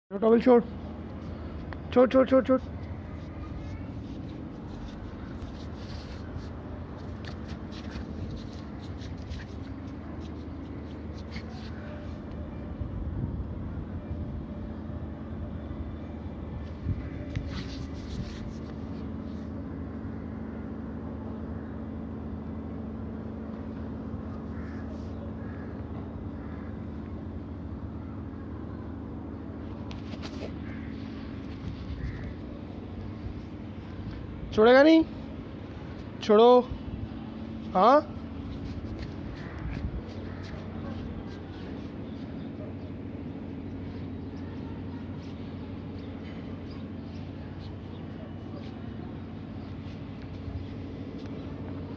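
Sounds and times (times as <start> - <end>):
low mechanical hum: 0.1 - 51.9.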